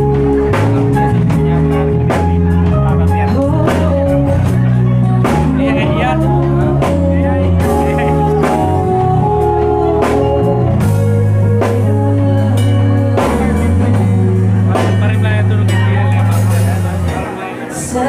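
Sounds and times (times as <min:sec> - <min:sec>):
band playing: 0:00.0 - 0:18.0
drum kit beat: 0:00.0 - 0:18.0.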